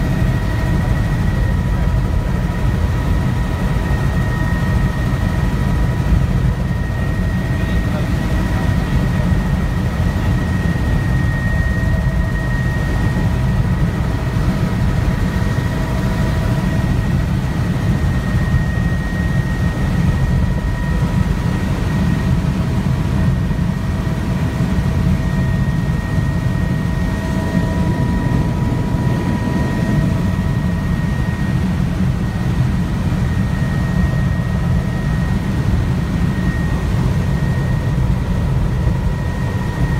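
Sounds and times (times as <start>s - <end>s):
helicopter rotor and engine rumble: 0.0s - 39.9s
high-pitched whine: 0.0s - 39.9s.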